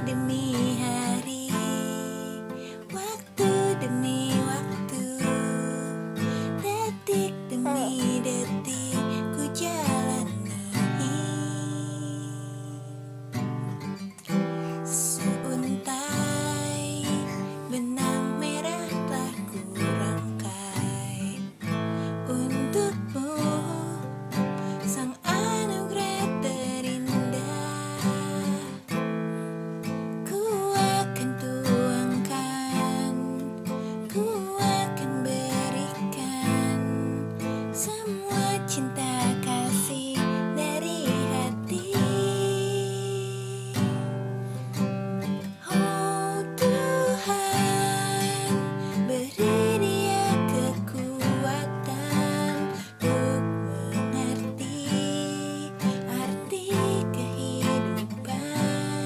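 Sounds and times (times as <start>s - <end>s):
person singing: 0.0s - 29.5s, 30.3s - 59.0s
acoustic guitar strumming: 0.0s - 59.0s.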